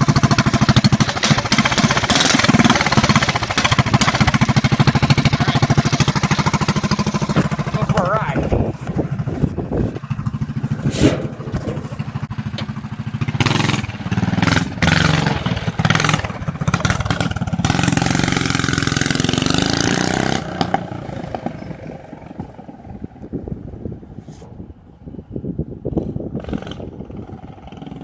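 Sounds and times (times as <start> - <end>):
mini bike engine revving: 0.0 - 23.1, 26.3 - 28.0.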